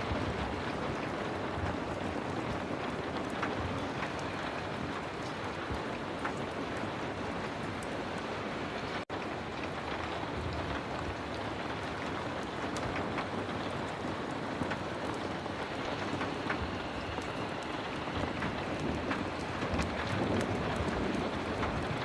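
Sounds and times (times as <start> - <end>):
heavy rain falling: 0.0 - 22.0
sharp crackles and ticks: 0.0 - 22.0.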